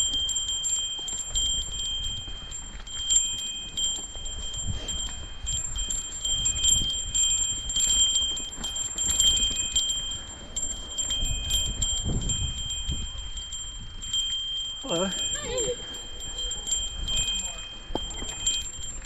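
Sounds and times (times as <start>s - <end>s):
high ringing jingle: 0.0s - 19.0s.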